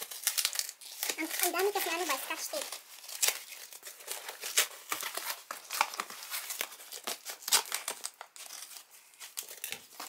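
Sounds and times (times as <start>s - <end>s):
tape and packaging tearing: 0.0s - 10.0s.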